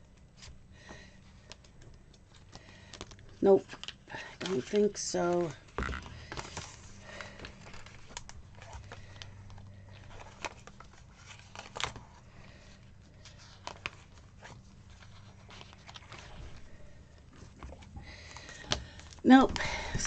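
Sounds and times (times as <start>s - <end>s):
paper pages rustling: 1.3s - 20.0s.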